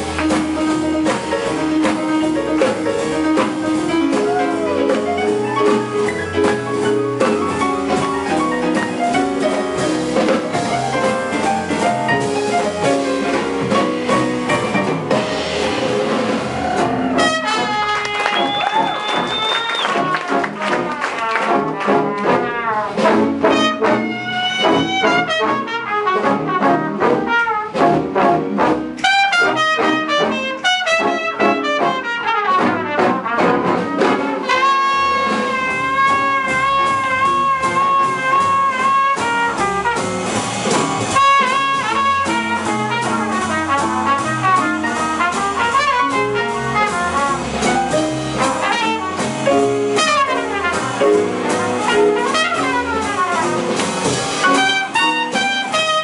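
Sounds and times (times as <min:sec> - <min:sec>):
jazz big band playing: 0:00.0 - 0:56.0.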